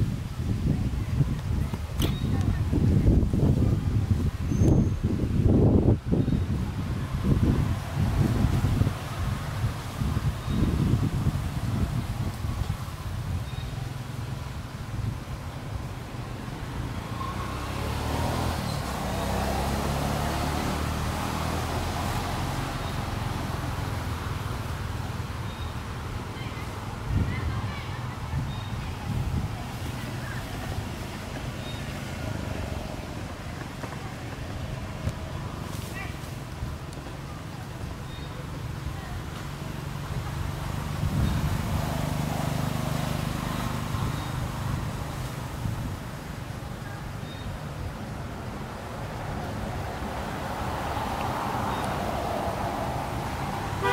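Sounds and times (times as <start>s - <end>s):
engine humming: 5.4s - 53.9s.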